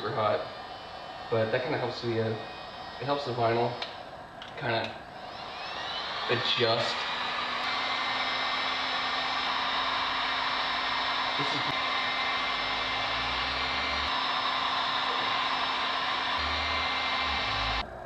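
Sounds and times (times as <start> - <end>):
heat gun blowing air: 0.0 - 17.9
heat gun motor hum: 0.0 - 17.9.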